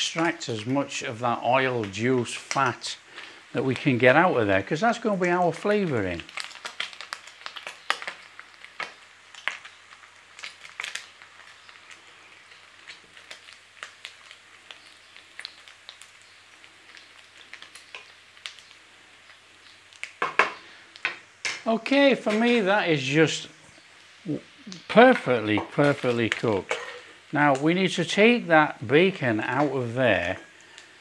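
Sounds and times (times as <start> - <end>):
bacon sizzling with pops: 0.0 - 31.0.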